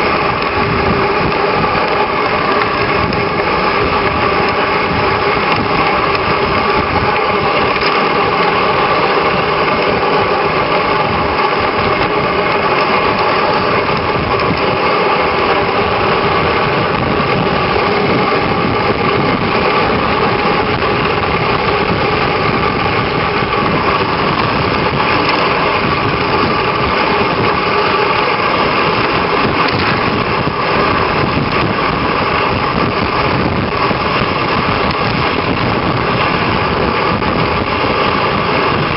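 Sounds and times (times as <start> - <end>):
dog sled running over snow: 0.0 - 38.9.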